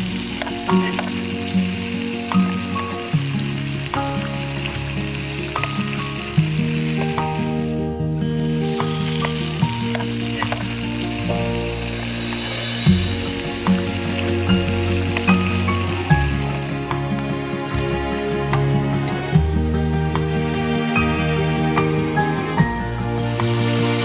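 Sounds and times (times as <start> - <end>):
crackling hiss: 0.0 - 24.0
sustained background music: 0.0 - 24.0.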